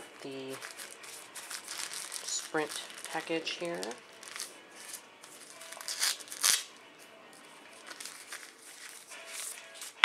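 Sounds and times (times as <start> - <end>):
packaging crinkling: 0.1 - 6.7, 7.8 - 10.0.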